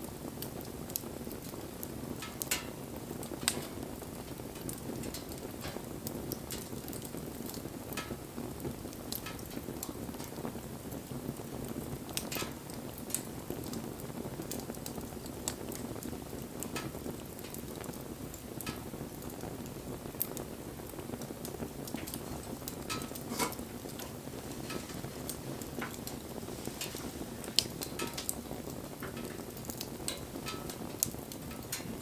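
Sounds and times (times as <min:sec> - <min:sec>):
fire crackling and popping: 0:00.0 - 0:32.0
flames rushing: 0:00.1 - 0:32.0.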